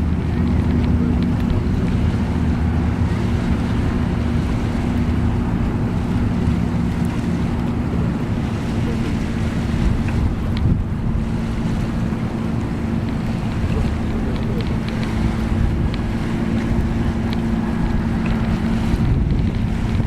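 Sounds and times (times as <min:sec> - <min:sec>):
boat engine drone: 0:00.0 - 0:20.0
rushing water: 0:00.0 - 0:20.0
wind buffeting microphone: 0:00.0 - 0:20.0.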